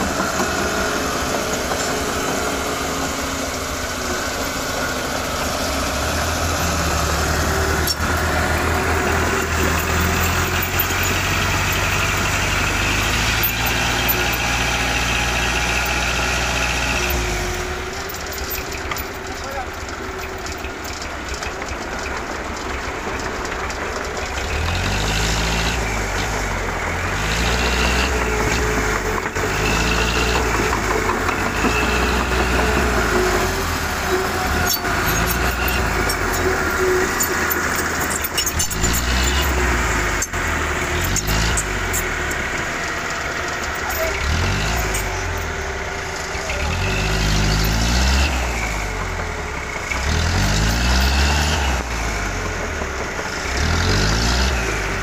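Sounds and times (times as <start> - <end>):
heavy diesel engines: 0.0 - 55.0.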